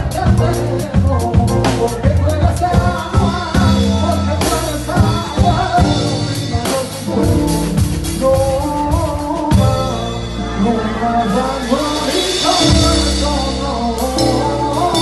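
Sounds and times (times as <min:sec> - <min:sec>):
live band playing: 0:00.0 - 0:15.0
person singing: 0:00.0 - 0:15.0.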